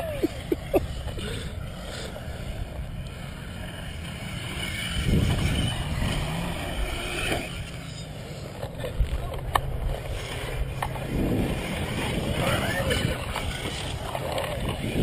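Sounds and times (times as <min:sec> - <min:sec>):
wind rumbling on microphone: 0:00.0 - 0:07.9, 0:08.5 - 0:15.0
radio-controlled cars running: 0:00.0 - 0:15.0.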